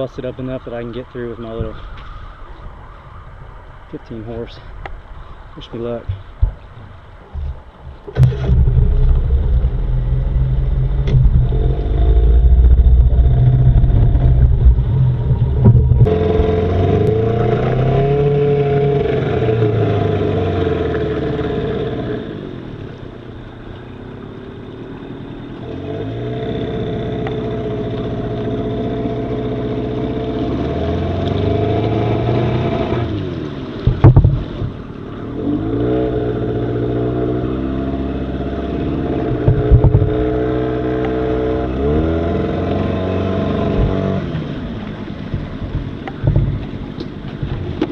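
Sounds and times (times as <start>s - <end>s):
outboard motor running: 6.1s - 47.9s.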